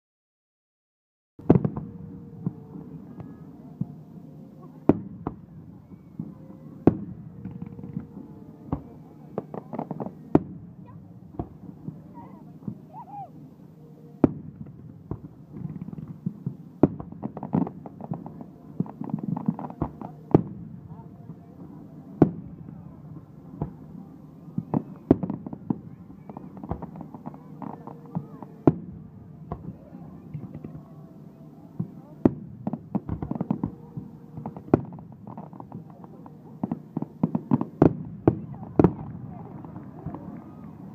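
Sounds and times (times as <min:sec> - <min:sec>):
continuous low rumble: 0:01.4 - 0:40.9.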